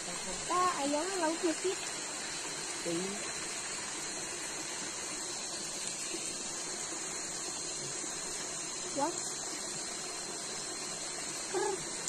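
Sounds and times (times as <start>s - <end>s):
river water flowing over rocks: 0.0s - 12.0s.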